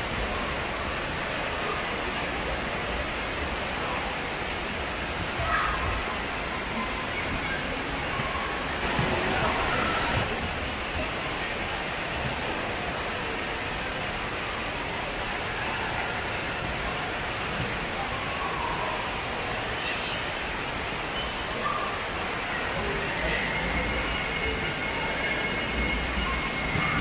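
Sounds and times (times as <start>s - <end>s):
faint children's voices: 0.0s - 27.0s
water rushing and splashing: 0.0s - 27.0s.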